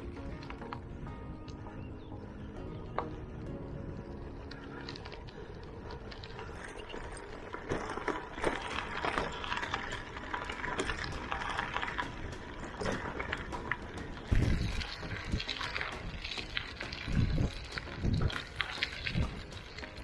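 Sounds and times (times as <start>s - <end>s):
bicycle tyre noise: 0.0s - 20.0s
crackling and rattling: 2.9s - 20.0s.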